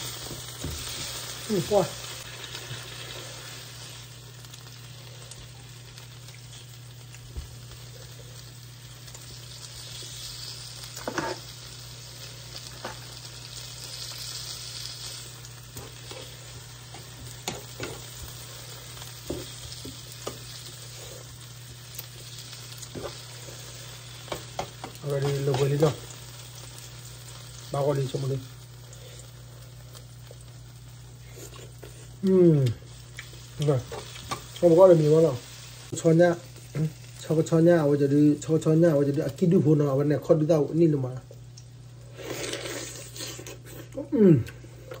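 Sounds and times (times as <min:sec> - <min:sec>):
meat sizzling in a frying pan: 0:00.0 - 0:42.3.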